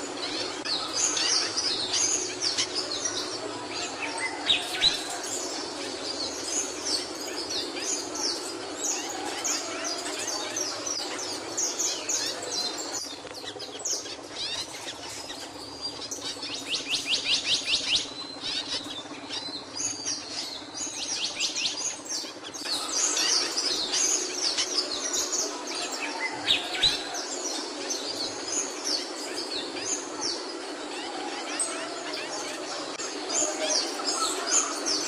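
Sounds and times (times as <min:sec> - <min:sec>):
bird trill: 0:00.0 - 0:35.0
steady background noise: 0:00.0 - 0:35.0.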